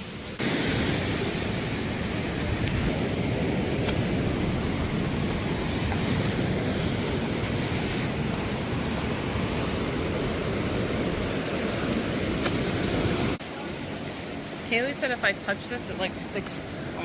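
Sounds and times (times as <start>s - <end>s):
surf on rocky beach: 0.0s - 17.0s.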